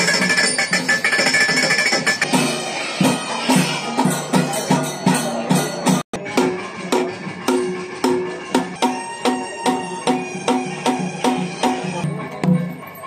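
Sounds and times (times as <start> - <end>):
drums playing a steady beat: 0.0 - 13.0
hand cymbals clashing: 0.0 - 13.0.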